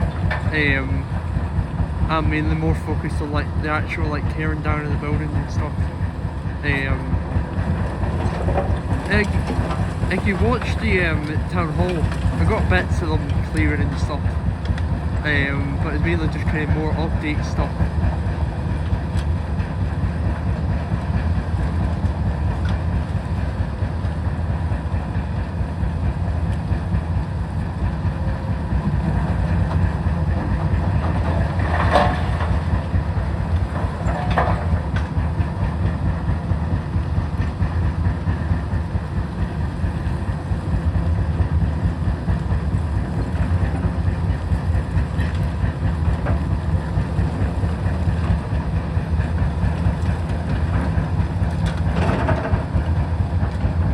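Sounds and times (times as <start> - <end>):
diesel machinery rumbling: 0.0 - 53.9.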